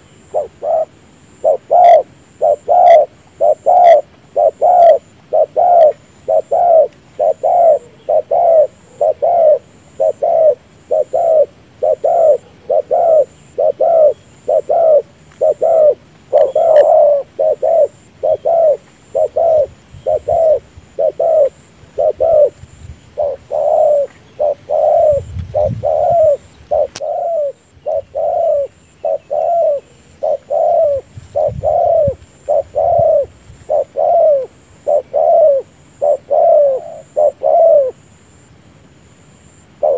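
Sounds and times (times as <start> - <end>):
dove cooing: 0.0 - 38.1.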